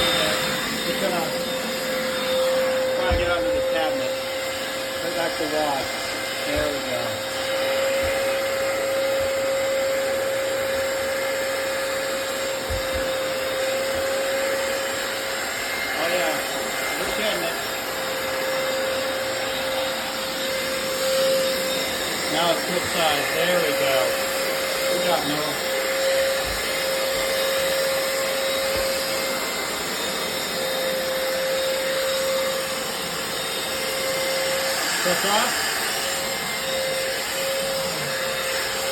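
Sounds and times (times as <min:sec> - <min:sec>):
floor cleaner motor whine: 0:00.0 - 0:38.9.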